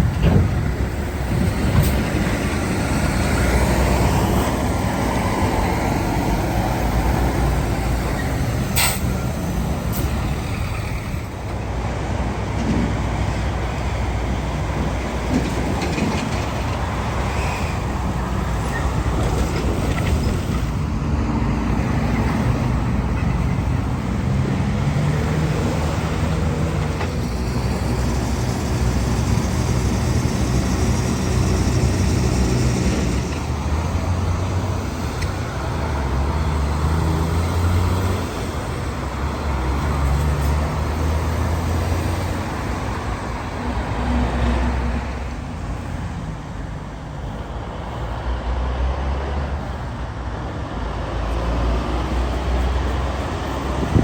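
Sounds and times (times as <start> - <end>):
truck engines passing: 0.0 - 54.0.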